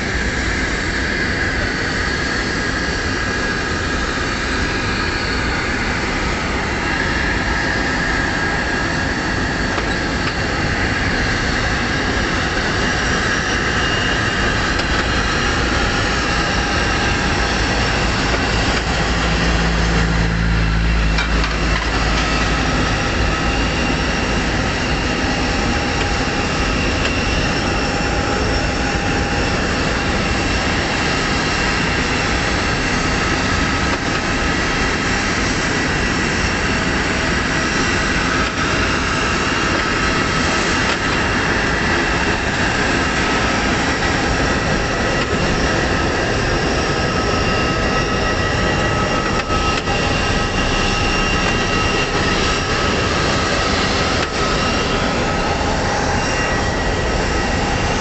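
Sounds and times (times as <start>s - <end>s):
jet aircraft high whine: 0.0s - 58.0s.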